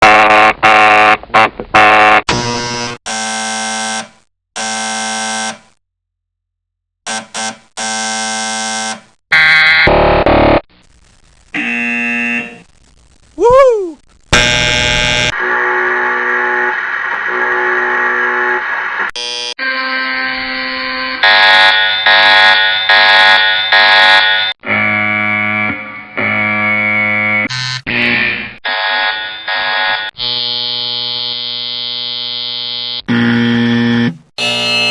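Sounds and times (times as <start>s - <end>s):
electronic buzzer sounds: 0.0s - 5.8s, 7.1s - 10.6s, 11.6s - 12.6s, 14.4s - 34.9s.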